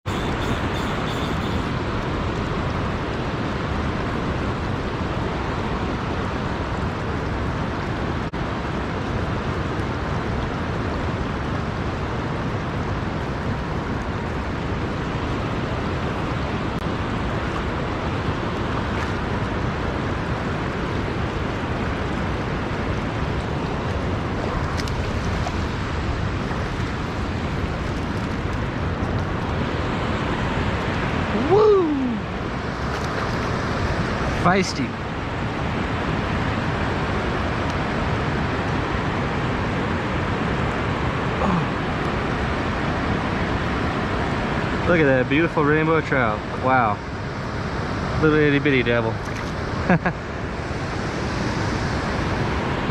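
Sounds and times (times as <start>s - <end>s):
river water rushing: 0.1s - 52.9s.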